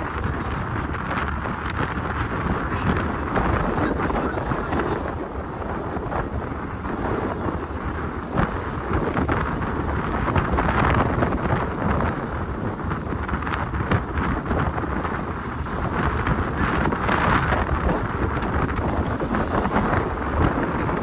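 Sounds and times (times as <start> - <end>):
boat engine low rumble: 0.0 - 21.0
wind buffeting the microphone: 0.0 - 21.0.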